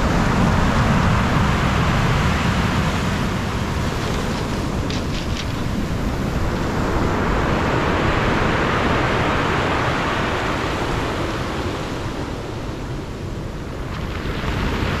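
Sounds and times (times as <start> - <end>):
sea waves breaking on beach: 0.0 - 15.0
wind rumbling on microphone: 0.0 - 15.0.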